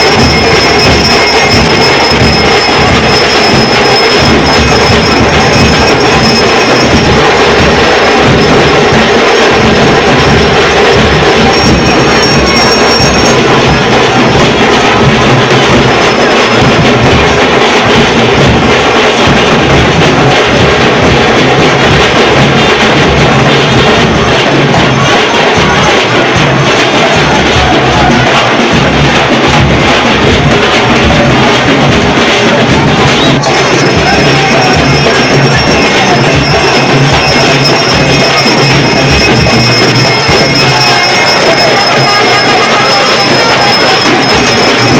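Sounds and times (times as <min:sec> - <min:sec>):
jingling percussion: 0:00.0 - 0:44.9
loud music with drumming: 0:00.0 - 0:44.9.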